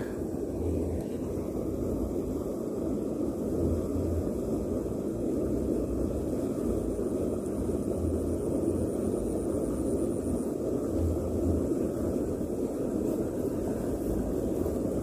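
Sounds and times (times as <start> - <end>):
faint thin high whine: 0.0 - 15.0
steady rushing noise: 0.0 - 15.0.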